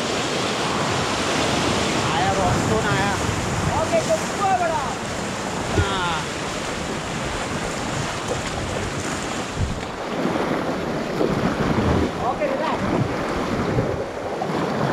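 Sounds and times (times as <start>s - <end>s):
river current rushing: 0.0s - 14.9s
wind buffeting microphone: 0.0s - 14.9s.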